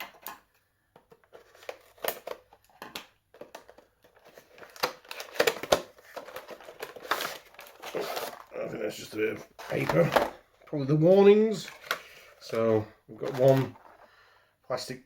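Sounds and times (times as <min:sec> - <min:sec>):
packaging rustling: 0:01.0 - 0:14.1.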